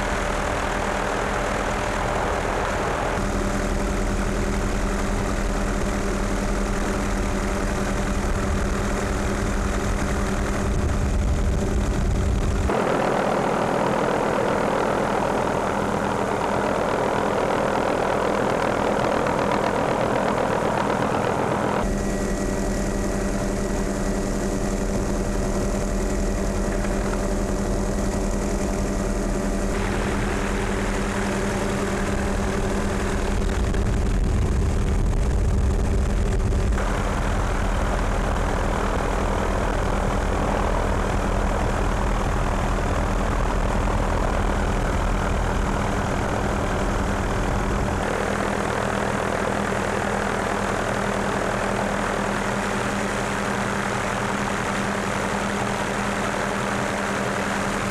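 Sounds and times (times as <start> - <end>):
helicopter engine and rotor drone: 0.0 - 57.9.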